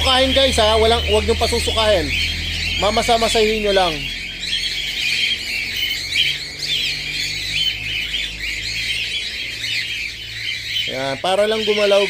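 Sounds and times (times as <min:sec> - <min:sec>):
cockatiels chirping and squawking: 0:00.0 - 0:12.0.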